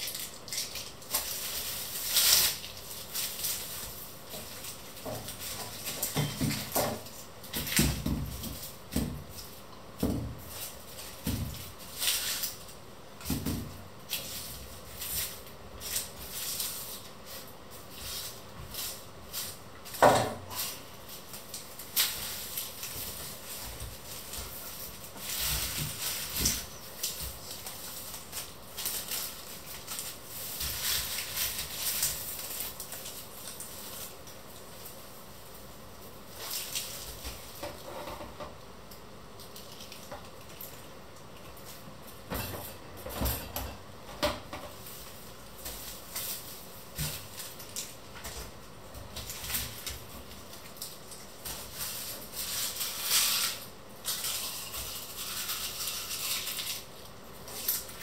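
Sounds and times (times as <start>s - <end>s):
onion skins crackling: 0.0s - 38.0s, 38.8s - 42.2s, 44.7s - 58.0s.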